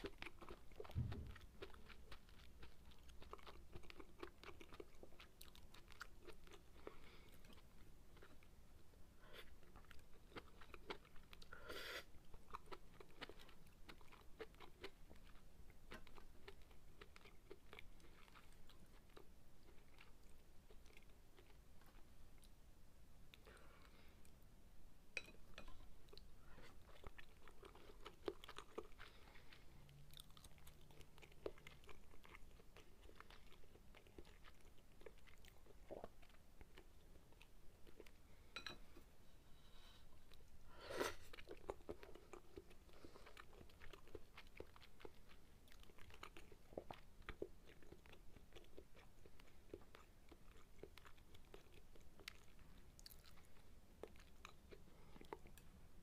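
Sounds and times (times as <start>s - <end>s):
close chewing: 0.0s - 22.6s, 25.6s - 39.1s, 40.2s - 55.8s.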